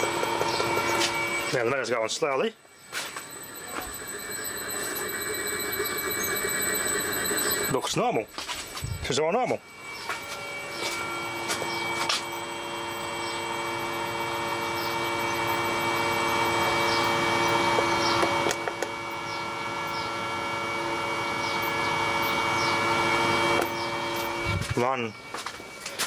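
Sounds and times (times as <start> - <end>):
fan motor hum and whine: 0.0 - 26.0.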